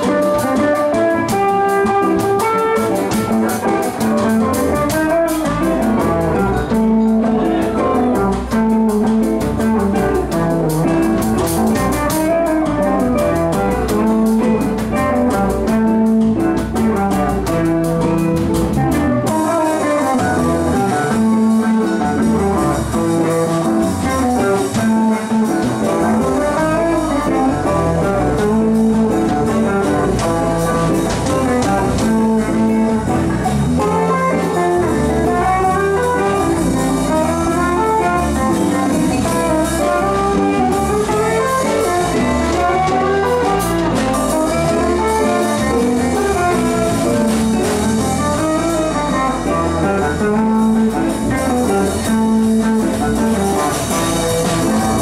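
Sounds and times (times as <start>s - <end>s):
drum kit: 0.0s - 55.0s
electric guitars playing jazz: 0.0s - 55.0s.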